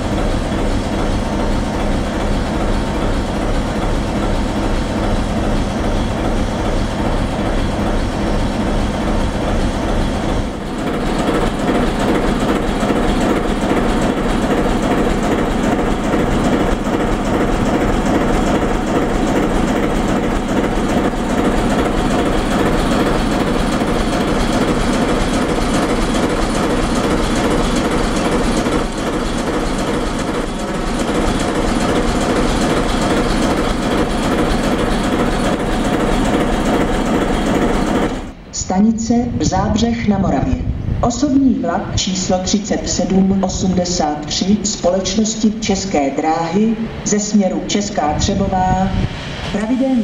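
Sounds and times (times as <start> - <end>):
diesel locomotive engine idling: 0.0 - 40.1.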